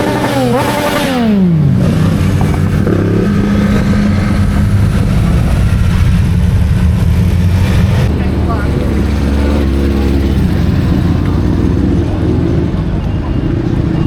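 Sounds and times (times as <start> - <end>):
motorcycle engine revving: 0.0 - 14.0
motorcycle engines droning: 0.0 - 14.0.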